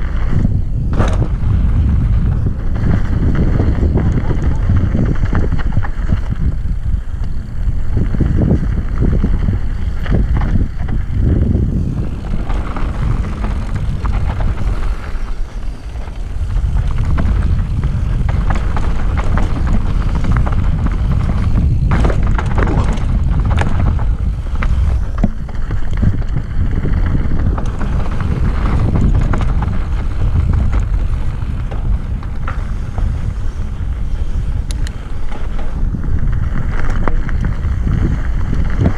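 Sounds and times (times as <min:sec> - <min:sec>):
bike rattling on rough trail: 0:00.0 - 0:38.9
wind buffeting microphone: 0:00.0 - 0:38.9.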